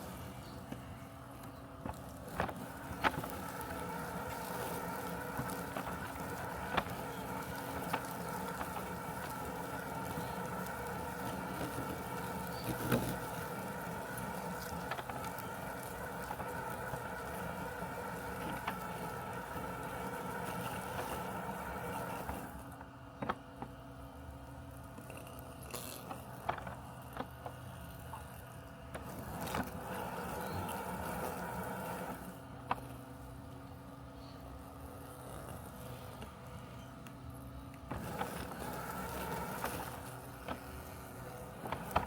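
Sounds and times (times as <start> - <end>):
robotic lawn mower humming: 0.0 - 42.0.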